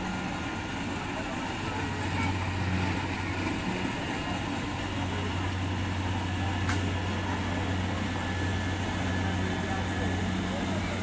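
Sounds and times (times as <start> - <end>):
combine harvester engine humming: 0.0 - 11.0.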